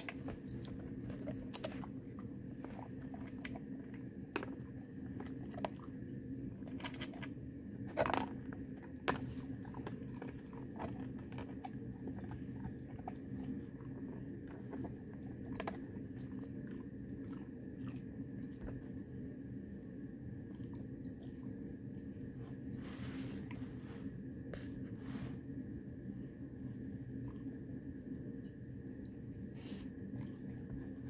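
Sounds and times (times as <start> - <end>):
dog chewing and crunching food: 0.0 - 31.0.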